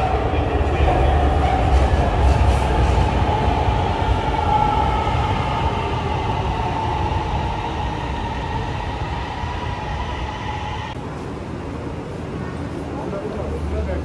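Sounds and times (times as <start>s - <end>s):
steady train whine: 0.0s - 14.0s
train wheels rumbling on rail: 0.0s - 14.0s.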